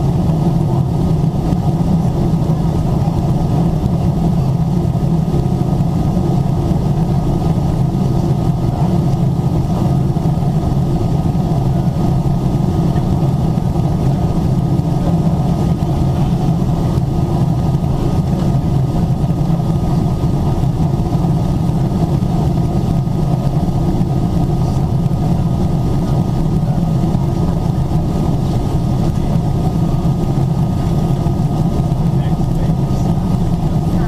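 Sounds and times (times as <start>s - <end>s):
airplane cabin engine drone: 0.0s - 34.0s
faint steady whine: 0.0s - 34.0s.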